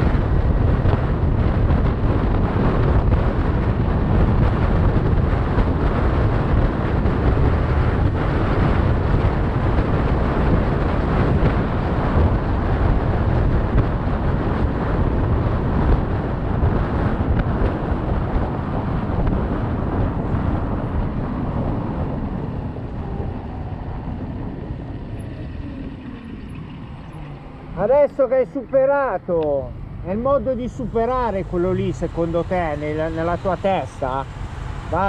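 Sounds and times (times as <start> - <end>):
road and tyre noise: 0.0 - 35.0
wind buffeting microphone: 0.0 - 35.0.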